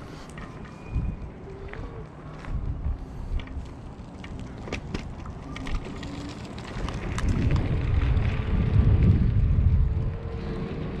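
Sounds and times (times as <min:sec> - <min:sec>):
scooter tyre rumble: 0:00.0 - 0:11.0
wind buffeting microphone: 0:00.8 - 0:11.0.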